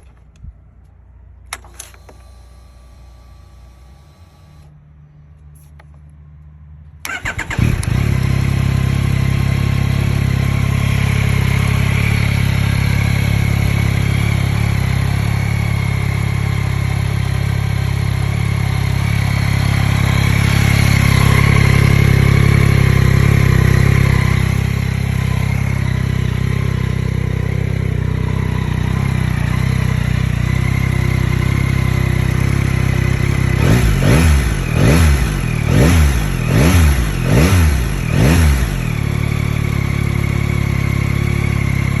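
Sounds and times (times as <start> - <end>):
motorcycle engine starting and idling: 0.0 - 5.0, 6.9 - 42.0.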